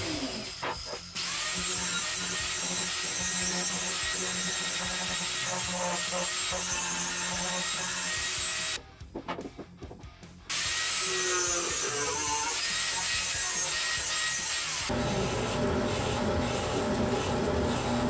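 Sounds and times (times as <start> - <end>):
angle grinder cutting steel: 0.0 - 8.8, 10.5 - 18.0.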